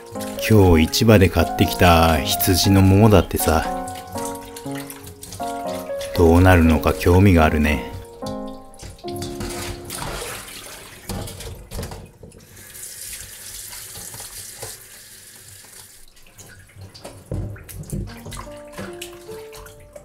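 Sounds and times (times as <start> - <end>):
tap water splashing into sink: 0.0 - 15.0, 15.6 - 20.0.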